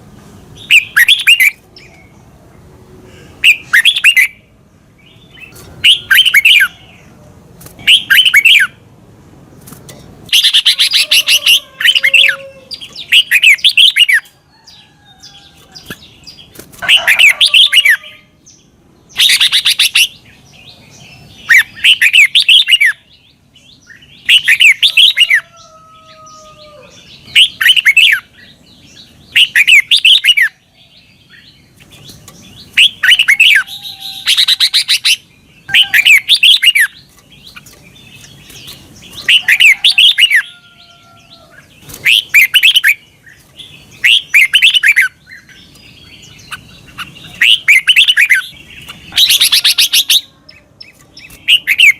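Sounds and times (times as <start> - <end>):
bulbul singing chattering phrases: 0.4 - 8.9, 10.2 - 25.5, 26.7 - 40.6, 41.2 - 51.9.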